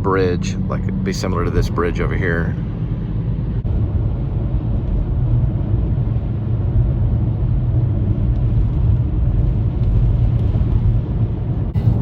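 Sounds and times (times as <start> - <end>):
car driving on highway: 0.0 - 12.0.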